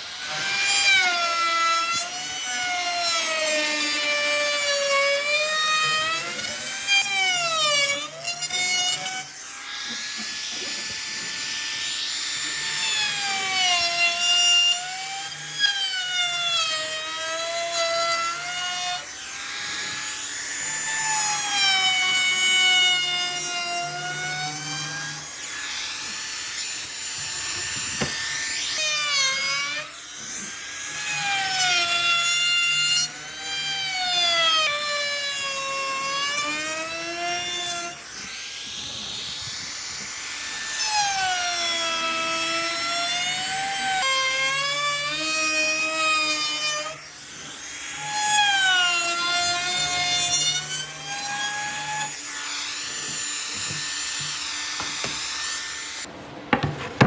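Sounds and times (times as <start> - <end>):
power tool motor whine: 0.0 - 56.7.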